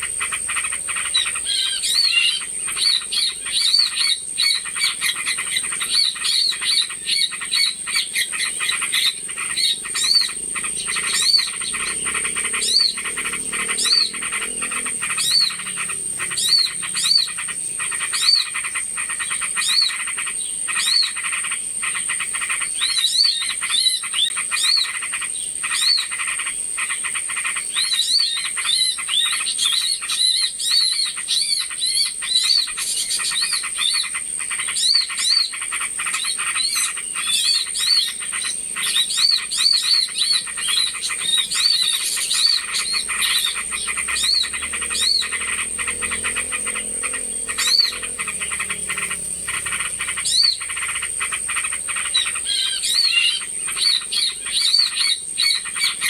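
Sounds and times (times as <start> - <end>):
small birds chattering: 0.0 - 56.0.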